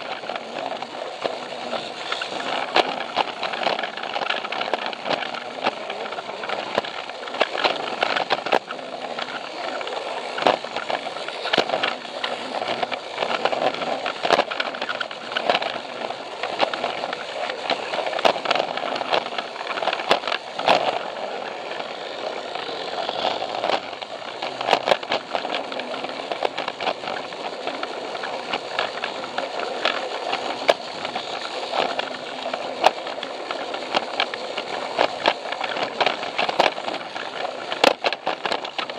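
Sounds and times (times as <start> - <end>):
plastic wheels rattling on track: 0.0 - 38.9
toy train motor running: 0.0 - 38.9.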